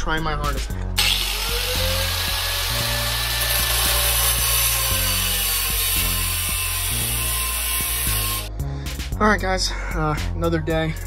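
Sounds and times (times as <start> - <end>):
bass line: 0.0 - 11.0
heavy metal music: 0.0 - 11.0.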